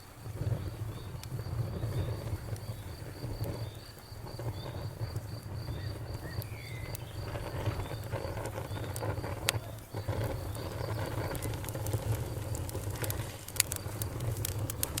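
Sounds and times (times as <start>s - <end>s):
insect chirping: 0.0s - 15.0s
wood fire crackling and popping: 0.0s - 15.0s.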